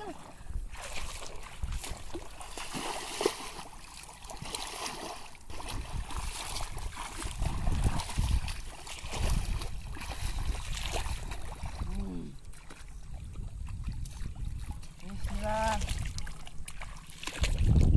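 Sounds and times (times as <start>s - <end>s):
muddy water sloshing and splashing: 0.0s - 17.9s.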